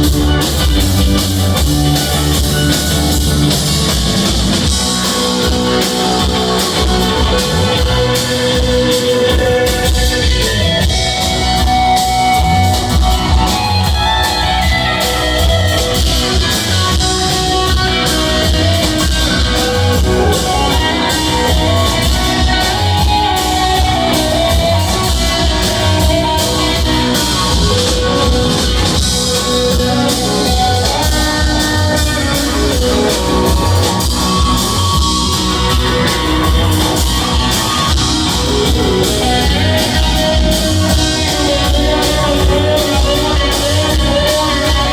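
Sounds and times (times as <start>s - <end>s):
drum kit beat: 0.0s - 44.9s
guitar jam: 0.0s - 44.9s.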